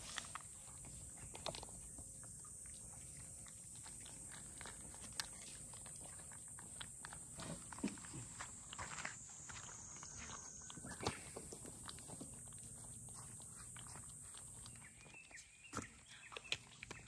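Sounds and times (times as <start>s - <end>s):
cats chewing dry kibble: 0.0s - 17.0s
cats lapping: 0.0s - 17.0s.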